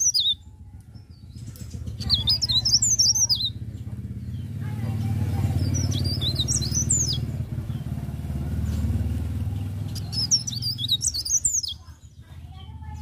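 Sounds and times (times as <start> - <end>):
warbler singing: 0.0 - 13.0.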